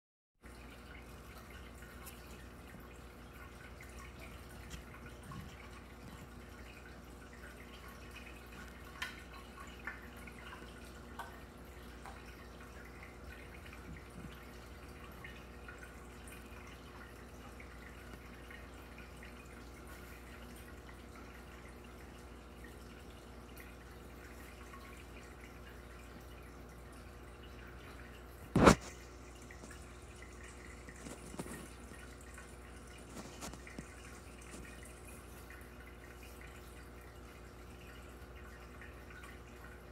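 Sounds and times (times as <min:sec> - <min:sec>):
water trickling and dripping: 0:00.4 - 0:39.9.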